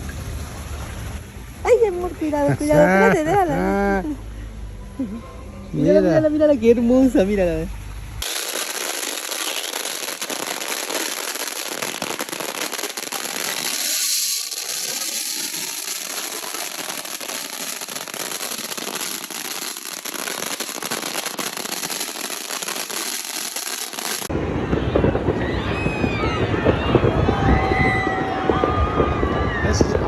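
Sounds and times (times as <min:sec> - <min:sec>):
fireworks crackling: 0:00.0 - 0:04.2, 0:07.1 - 0:30.0.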